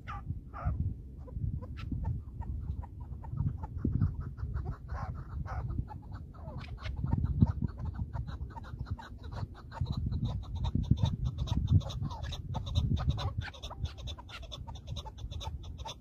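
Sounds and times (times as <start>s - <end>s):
partridge clucking calls: 0.0s - 16.0s
wind rumbling on microphone: 0.0s - 16.0s.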